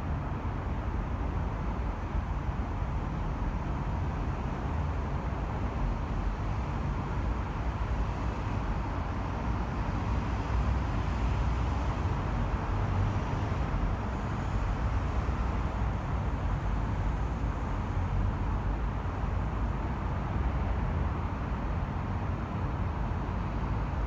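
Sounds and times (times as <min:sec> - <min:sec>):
dense traffic rumble: 0:00.0 - 0:24.0.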